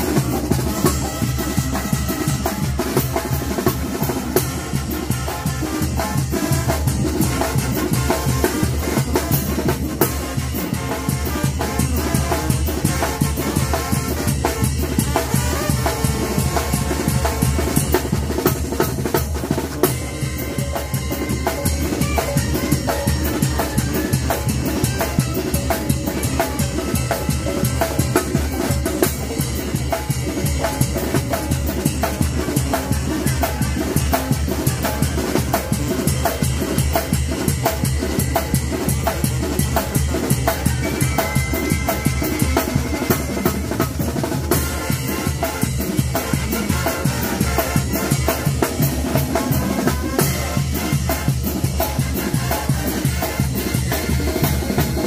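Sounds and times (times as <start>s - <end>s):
wind instruments playing: 0.0s - 18.8s, 19.4s - 30.4s, 38.7s - 55.0s
bass drum cymbal and snare rhythm: 0.0s - 55.0s.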